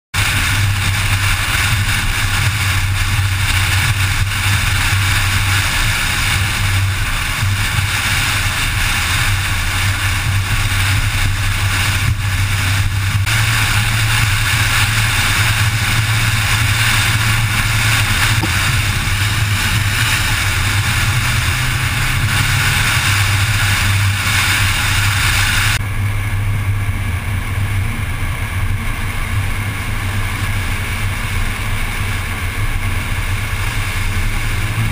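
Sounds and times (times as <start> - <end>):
low car engine drone: 0.1 - 34.9
rushing road and wind noise: 0.1 - 34.9.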